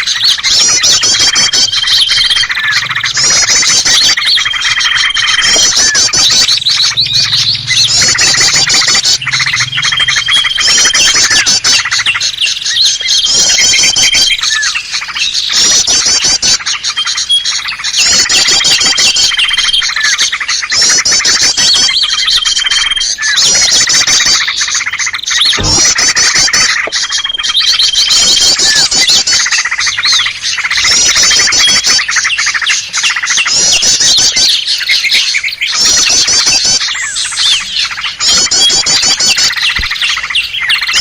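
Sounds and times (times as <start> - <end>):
songbirds chirping and trilling: 0.0 - 41.0.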